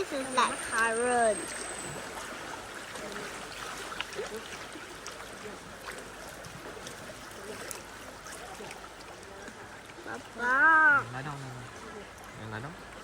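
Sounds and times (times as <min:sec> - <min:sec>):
river water rushing and lapping: 0:00.0 - 0:13.0.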